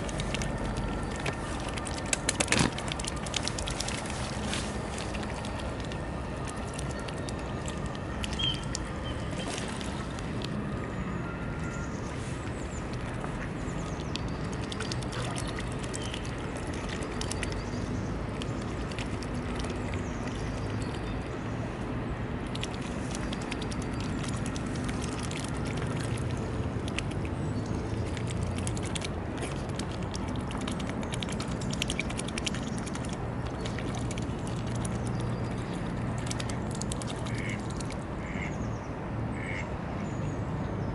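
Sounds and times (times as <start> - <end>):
bills dabbling in water: 0.0 - 40.4.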